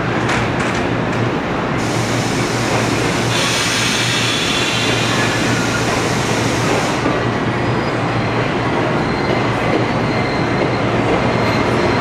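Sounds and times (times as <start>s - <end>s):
train electrical hum: 0.0s - 11.8s.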